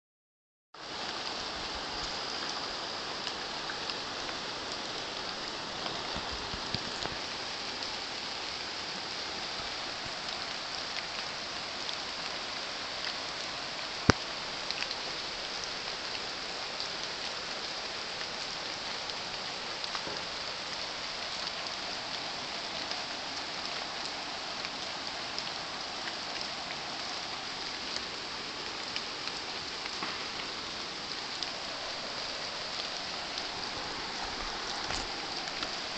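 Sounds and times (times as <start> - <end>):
rain falling on water and leaves: 0.8 - 35.9.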